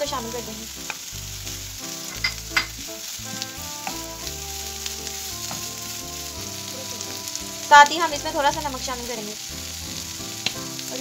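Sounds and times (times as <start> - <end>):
soft background music: 0.0 - 11.0
vegetables sizzling in oil: 0.0 - 11.0.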